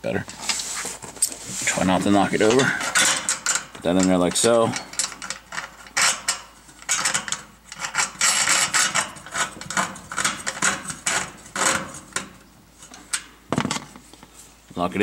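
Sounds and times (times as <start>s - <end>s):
metallic clicks and scrapes: 0.4s - 14.3s.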